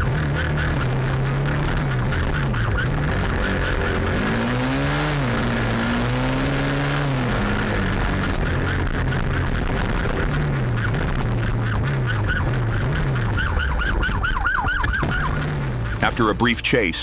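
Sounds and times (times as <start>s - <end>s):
motorcycle engine revving: 0.0s - 16.4s
road and wind noise: 0.0s - 17.0s.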